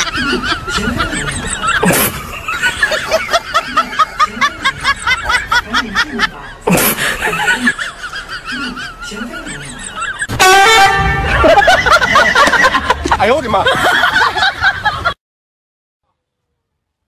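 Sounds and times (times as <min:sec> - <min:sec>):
high giggling laughter: 0:00.0 - 0:10.3, 0:11.2 - 0:15.2.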